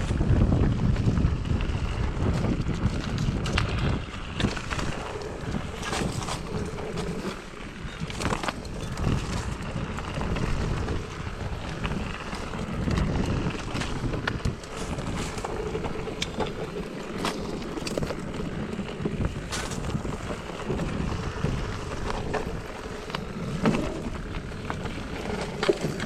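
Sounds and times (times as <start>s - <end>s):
bike clicks and rattles: 0.0s - 26.0s
bike rumbling on rough trail: 0.0s - 26.0s
wind buffeting microphone: 0.0s - 26.0s.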